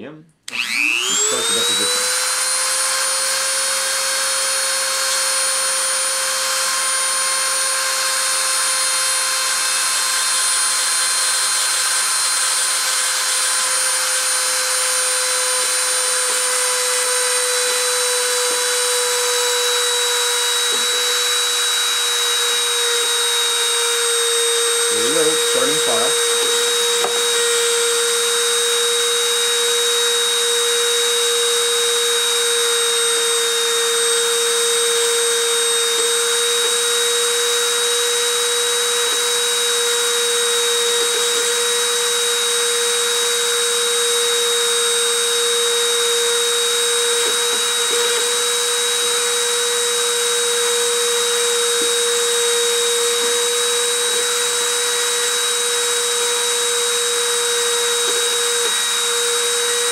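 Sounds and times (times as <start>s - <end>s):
rotary tool whining: 0.5s - 59.9s.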